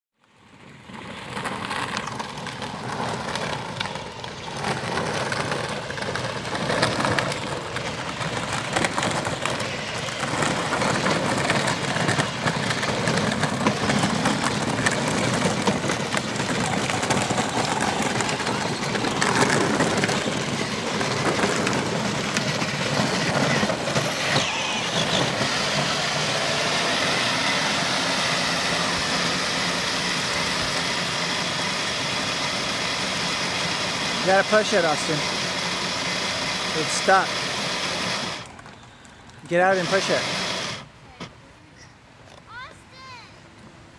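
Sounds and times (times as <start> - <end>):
toy vehicle motors humming: 1.4 - 41.4.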